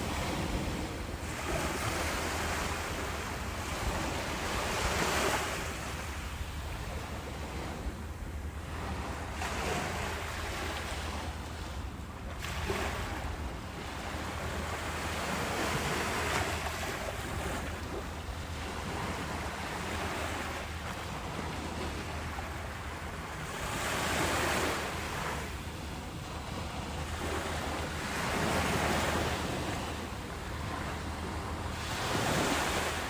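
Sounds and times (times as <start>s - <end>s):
low rumble of surf: 0.0s - 33.0s
ocean waves breaking: 0.0s - 33.0s.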